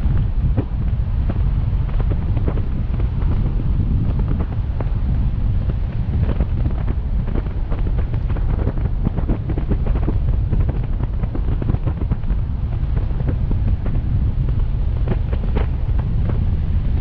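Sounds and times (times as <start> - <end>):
crackles: 0.0 - 17.0
wind buffeting microphone: 0.0 - 17.0.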